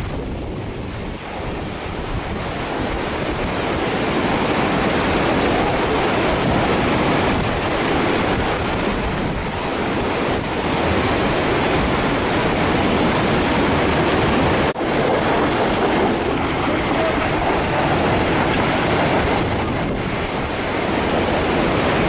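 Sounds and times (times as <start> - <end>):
water rushing across road: 0.0 - 22.0.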